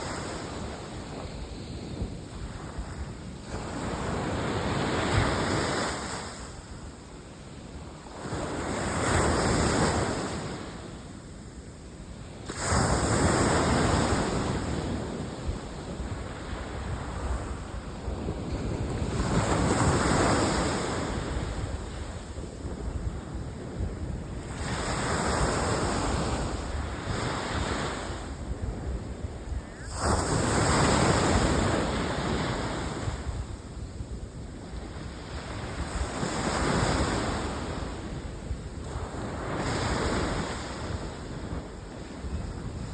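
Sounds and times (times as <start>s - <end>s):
wind rumbling on microphone: 0.0s - 42.9s.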